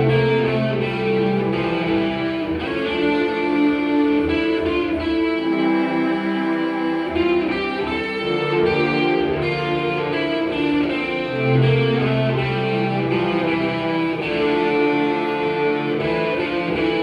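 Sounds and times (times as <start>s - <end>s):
electric guitar: 0.0s - 17.0s.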